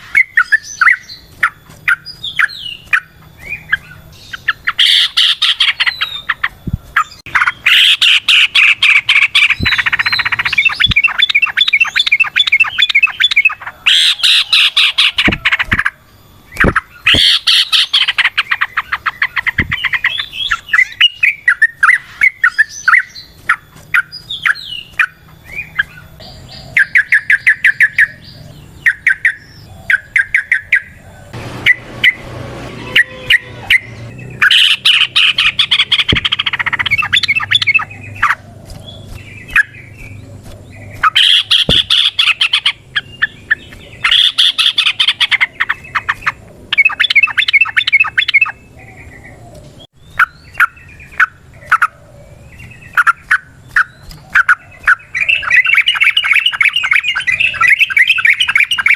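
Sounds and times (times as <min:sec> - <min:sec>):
bird singing bubbling song: 0:00.0 - 0:32.3, 0:32.9 - 0:58.9
bird chirps: 0:00.0 - 0:58.9.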